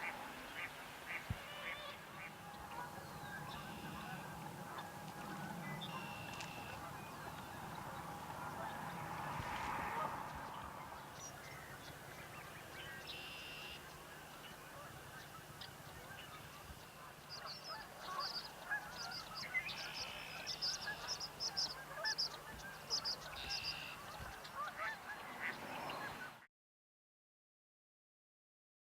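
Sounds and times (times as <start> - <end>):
goose-like honks: 0.0 - 26.4.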